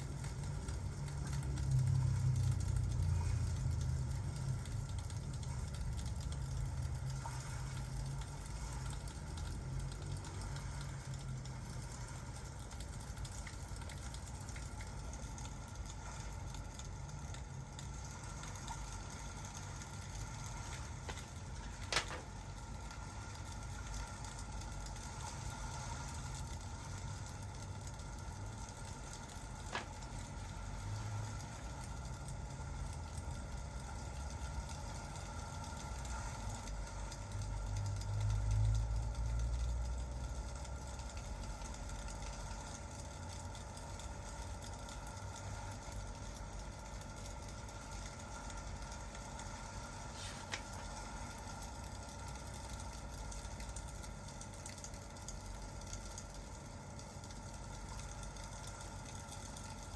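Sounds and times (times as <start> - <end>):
fire crackle: 0.0 - 59.9
steady rain hiss: 0.0 - 59.9.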